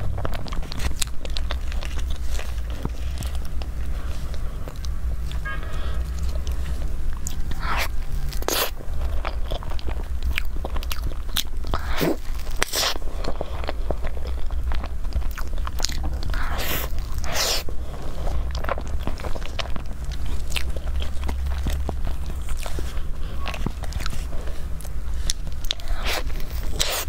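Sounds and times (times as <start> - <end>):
low hum: 0.0 - 27.0
wet chewing and biting: 0.0 - 27.0.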